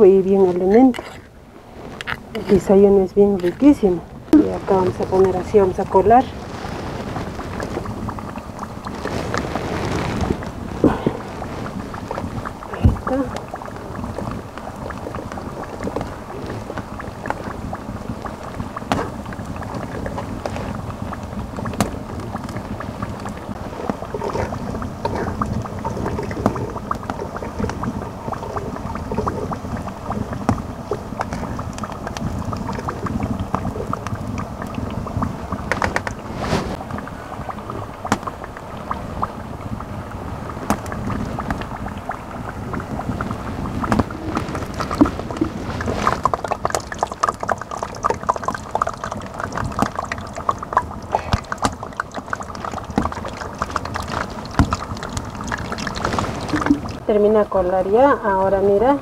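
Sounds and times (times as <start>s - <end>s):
steady rushing noise: 3.9s - 25.7s, 30.0s - 57.1s.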